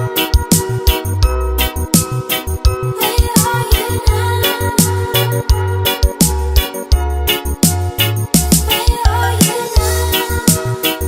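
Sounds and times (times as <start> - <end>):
reggae remix with heavy bass: 0.0 - 11.0.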